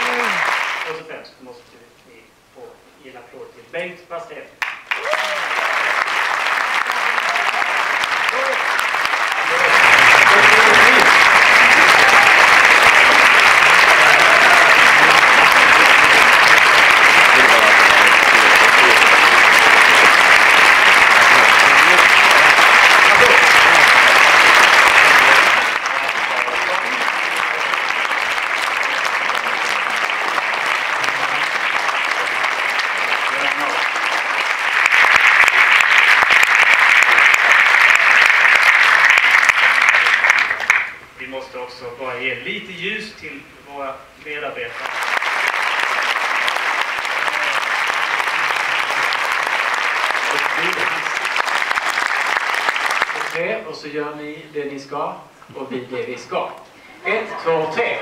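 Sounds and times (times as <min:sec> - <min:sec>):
audience applauding: 0:00.0 - 0:01.1, 0:04.6 - 0:41.0, 0:44.6 - 0:53.6.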